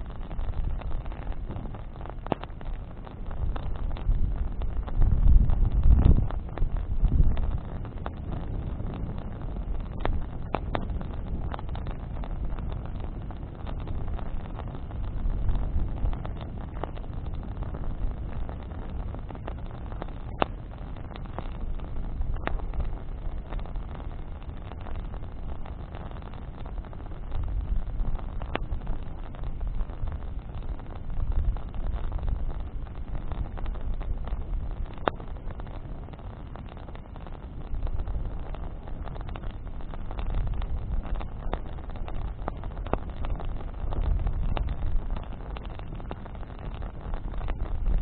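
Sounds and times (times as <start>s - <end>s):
campfire crackling: 0.0s - 48.0s
low rumble: 0.0s - 48.0s.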